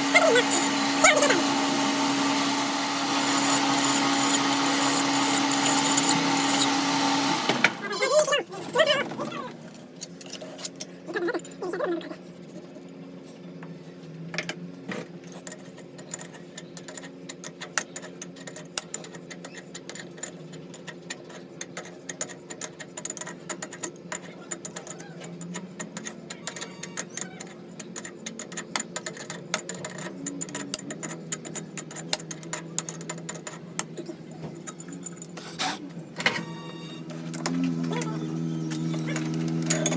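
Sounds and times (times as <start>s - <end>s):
workshop machine humming: 0.0s - 14.9s, 15.6s - 39.9s.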